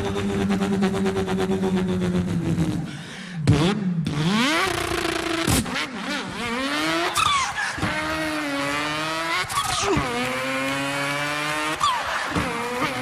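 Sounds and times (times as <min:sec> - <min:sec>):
man imitating car engine: 0:00.0 - 0:05.6, 0:06.2 - 0:13.0.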